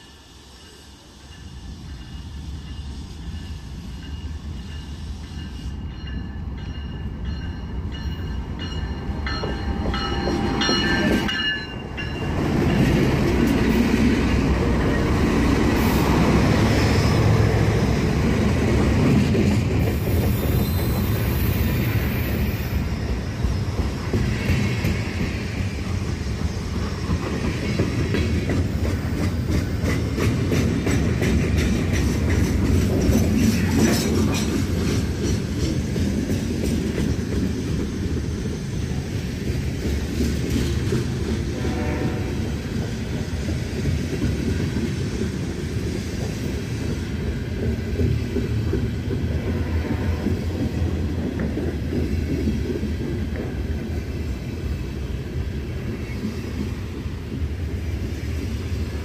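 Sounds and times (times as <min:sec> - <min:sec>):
train wheels clickety-clack: 0:01.2 - 0:59.0.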